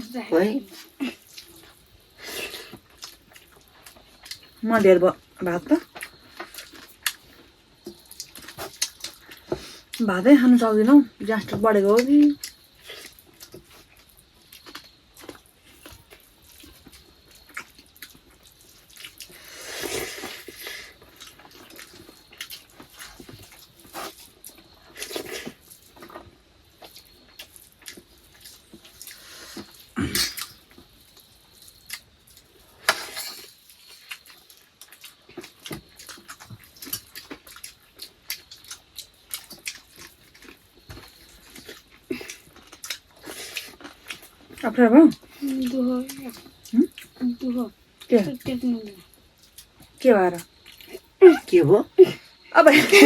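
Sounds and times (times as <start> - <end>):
chewing and squishing food: 0.4 - 51.5.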